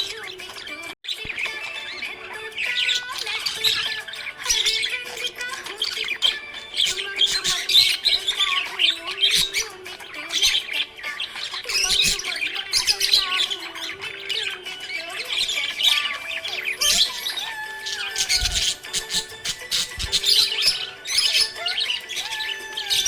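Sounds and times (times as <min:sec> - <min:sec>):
budgerigars chirping and warbling: 0:00.0 - 0:23.0
harsh squawks: 0:00.0 - 0:23.0.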